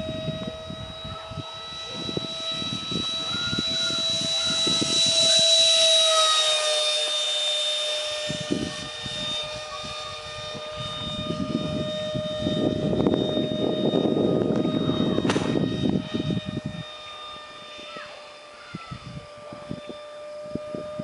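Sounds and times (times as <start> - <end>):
model jet fan whining: 0.0 - 21.0
wind buffeting microphone: 0.0 - 21.0.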